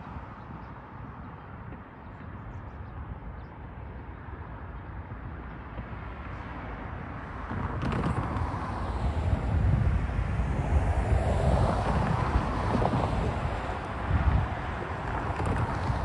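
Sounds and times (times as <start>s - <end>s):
vehicles passing close by: 0.0s - 16.0s.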